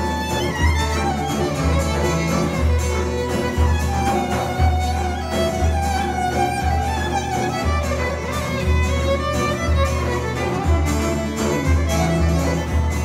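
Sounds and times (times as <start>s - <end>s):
plucked oud: 0.0s - 13.0s
violin melody: 0.0s - 13.0s.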